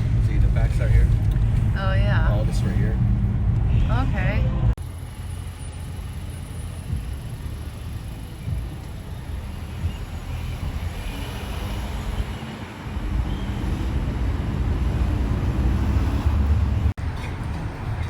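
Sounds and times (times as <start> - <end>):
vehicle road noise rumble: 0.0 - 18.0.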